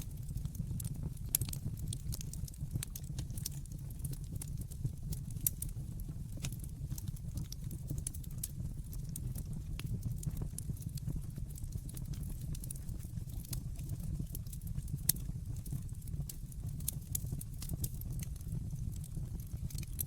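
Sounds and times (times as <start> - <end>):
fire popping and snapping: 0.0 - 20.0
low rumble of burning: 0.0 - 20.0.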